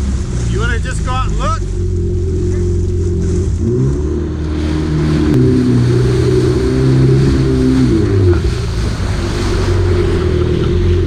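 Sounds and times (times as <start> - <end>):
jet ski engine at speed: 0.0 - 11.0
water rushing and spraying: 0.0 - 11.0.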